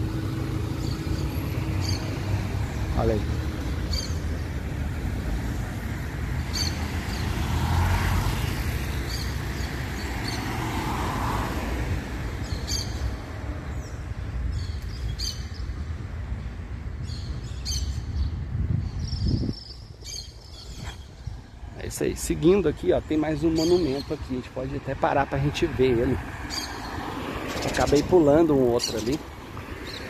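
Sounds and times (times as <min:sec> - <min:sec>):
cars passing: 0:00.0 - 0:19.1, 0:19.7 - 0:30.0
small birds chirping: 0:00.2 - 0:10.8, 0:12.4 - 0:30.0.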